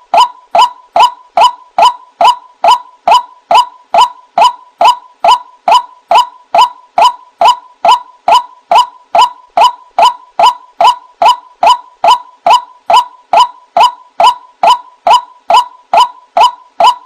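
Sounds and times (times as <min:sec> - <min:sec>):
waterhen repeated sharp call: 0:00.0 - 0:17.0.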